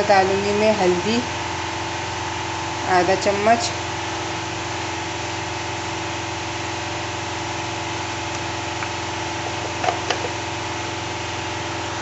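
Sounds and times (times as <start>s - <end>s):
machine hum with tones: 0.0s - 12.0s.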